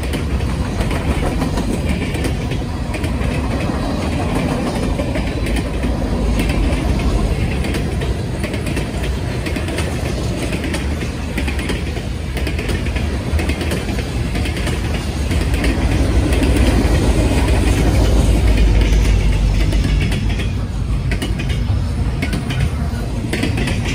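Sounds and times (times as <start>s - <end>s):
diesel locomotive rumble: 0.0s - 23.9s
freight cars rumbling and rattling: 0.0s - 23.9s
train wheels clicking over rail joints: 0.0s - 23.9s.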